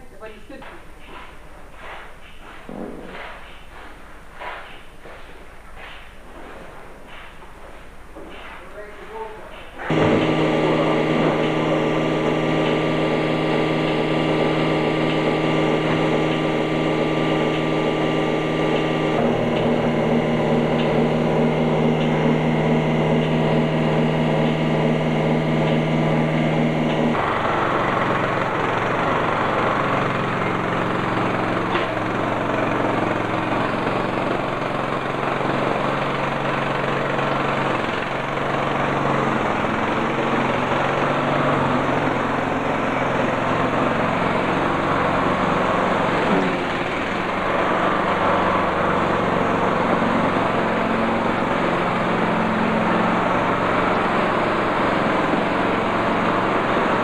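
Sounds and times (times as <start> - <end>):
straw chopper machine running: 8.8 - 57.0.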